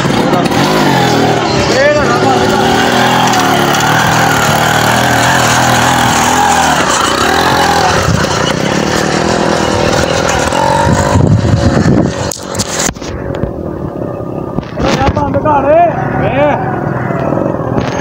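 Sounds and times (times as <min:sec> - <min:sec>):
vehicle engine running: 0:00.0 - 0:14.7.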